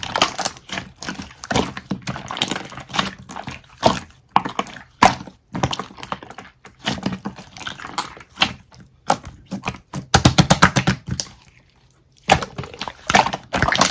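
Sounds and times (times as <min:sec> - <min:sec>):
slime squished by hand: 0:00.0 - 0:13.9.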